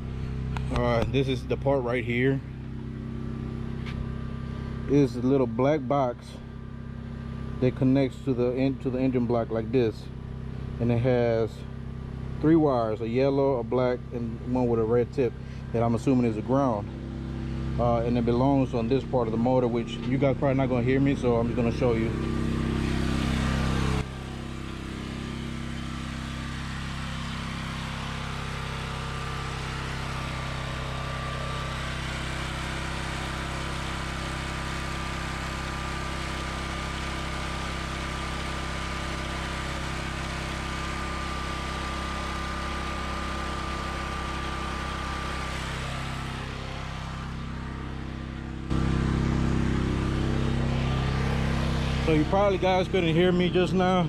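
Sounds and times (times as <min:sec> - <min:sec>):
gas engine running: 0:00.0 - 0:54.0.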